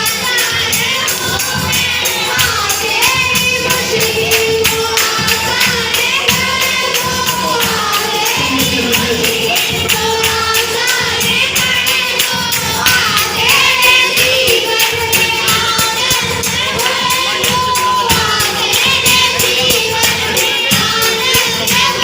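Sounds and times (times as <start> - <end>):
group singing a worship song: 0.0 - 22.0
tambourine beat: 0.0 - 22.0.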